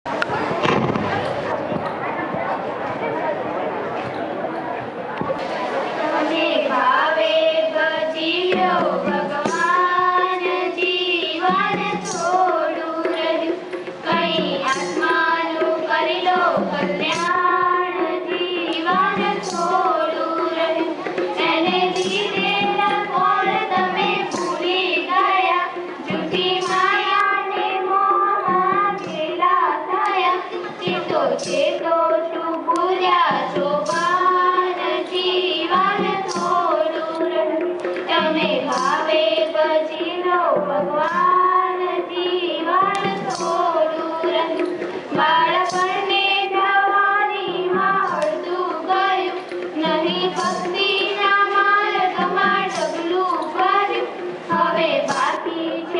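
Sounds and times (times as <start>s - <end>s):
girls singing together: 5.3s - 55.9s.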